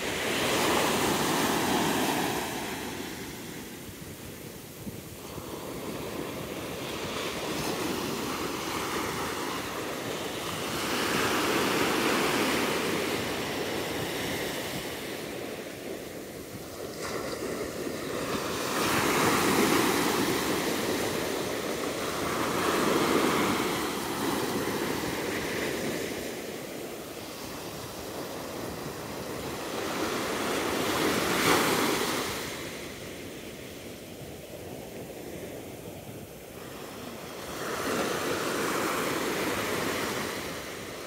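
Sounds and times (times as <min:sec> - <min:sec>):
waves washing onto sandy beach: 0:00.0 - 0:41.0.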